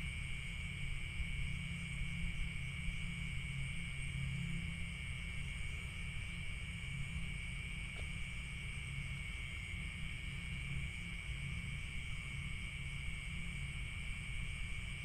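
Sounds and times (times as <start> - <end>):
constant low rumble: 0.0 - 15.0
crickets trilling: 0.0 - 15.0.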